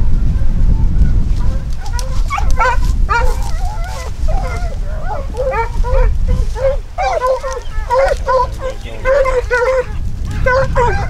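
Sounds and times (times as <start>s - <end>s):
steady low rumble: 0.0s - 11.0s
dogs yipping and whining: 1.3s - 11.0s.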